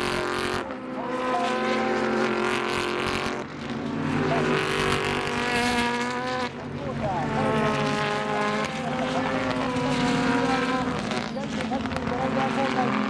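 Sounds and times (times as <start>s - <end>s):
race cars passing through corner: 0.0s - 13.0s.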